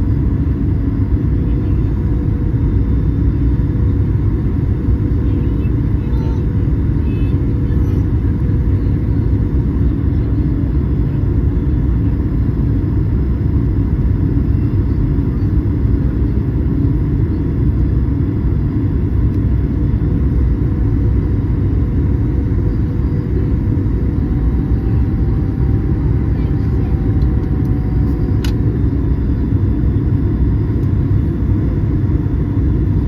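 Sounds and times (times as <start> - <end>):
airliner cabin engine rumble: 0.0 - 33.0
faint steady hum: 0.0 - 33.0.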